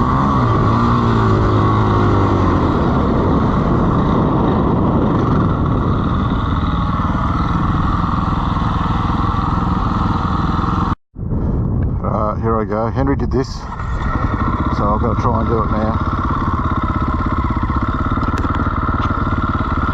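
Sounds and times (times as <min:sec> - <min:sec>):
dirt bike engine running: 0:00.0 - 0:11.0, 0:13.4 - 0:19.9.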